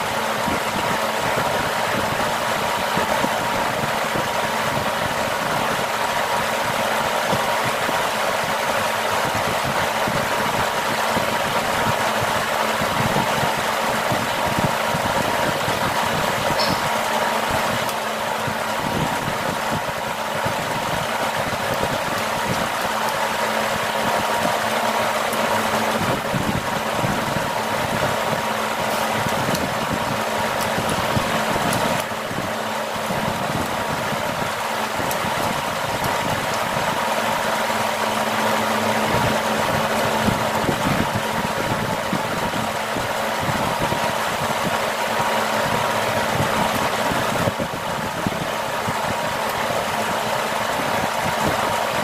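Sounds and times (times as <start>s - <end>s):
motor humming: 0.0s - 52.0s.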